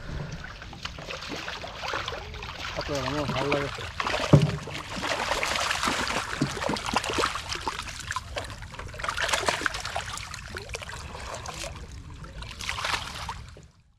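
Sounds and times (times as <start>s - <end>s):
fish thrashing in water: 0.0s - 13.6s
water splashing and dripping: 0.0s - 13.7s.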